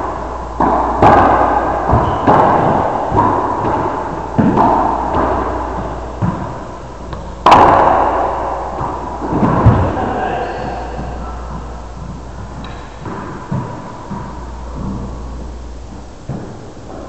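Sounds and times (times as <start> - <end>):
racquetball smacks echoing: 0.1 - 15.1.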